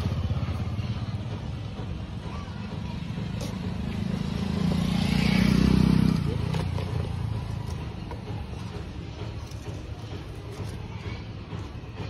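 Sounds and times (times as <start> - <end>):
motor vehicle engine running: 0.0 - 12.0.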